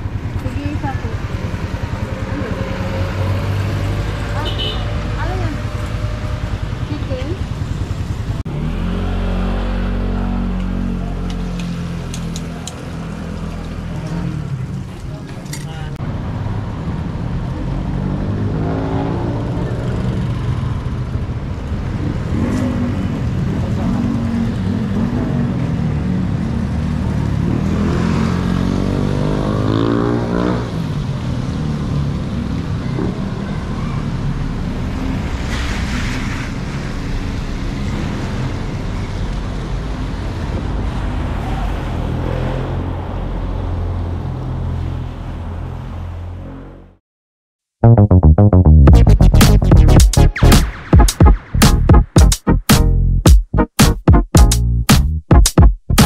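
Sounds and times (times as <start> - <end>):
vehicles passing: 0.0 - 47.0.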